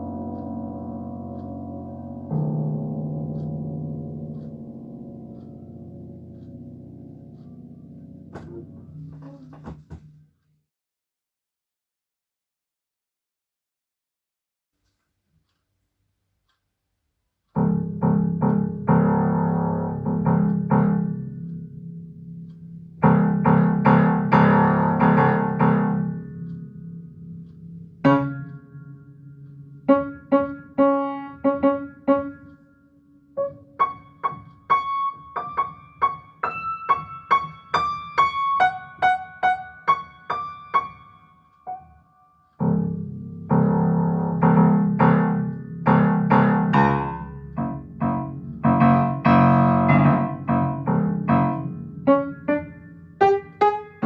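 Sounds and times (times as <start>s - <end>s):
piano improvisation: 0.0s - 10.3s, 17.5s - 54.0s.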